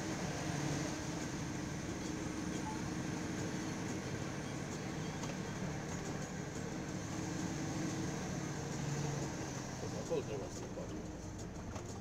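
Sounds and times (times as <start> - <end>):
road and tyre noise: 0.0 - 12.0
truck diesel engine: 0.0 - 12.0.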